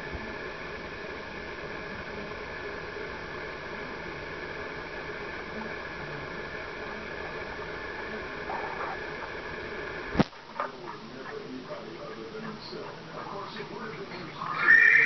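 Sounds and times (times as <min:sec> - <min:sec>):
faint steady tones: 0:00.0 - 0:15.0
steady hiss: 0:00.0 - 0:15.0.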